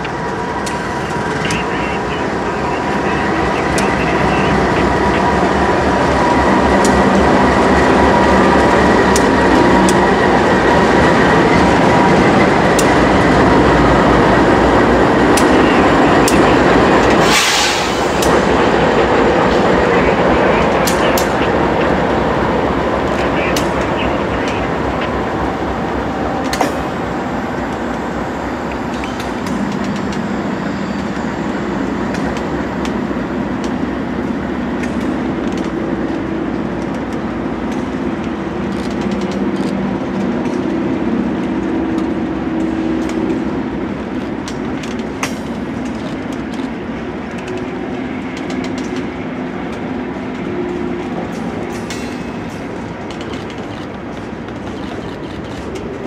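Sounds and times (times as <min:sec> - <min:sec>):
diesel locomotive engine drone: 0:00.0 - 0:56.0
train wheels rumbling on rails: 0:00.0 - 0:56.0.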